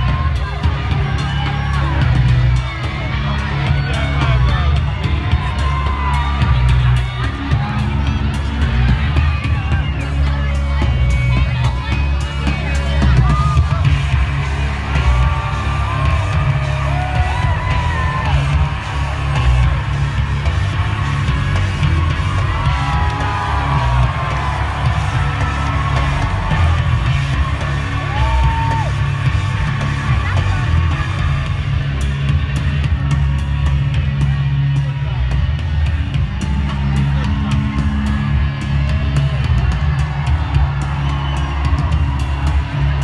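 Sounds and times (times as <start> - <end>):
crowd yelling and cheering: 0.0 - 43.0
entrance music over loudspeakers: 0.0 - 43.0.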